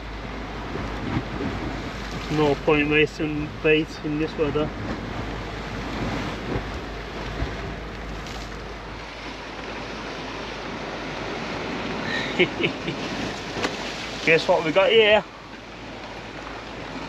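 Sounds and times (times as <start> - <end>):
wind: 0.0 - 17.0
wind rumbling on microphone: 0.0 - 17.0.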